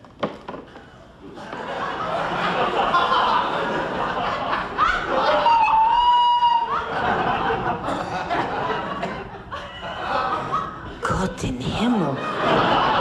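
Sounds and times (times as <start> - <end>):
audience laughing: 1.4 - 11.0, 11.8 - 13.0.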